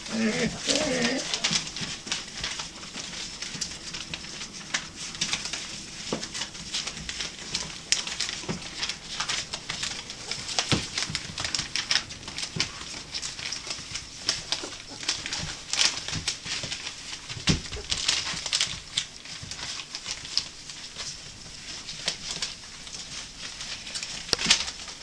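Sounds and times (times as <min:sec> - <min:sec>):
puppies scratching and rustling: 0:00.0 - 0:25.0.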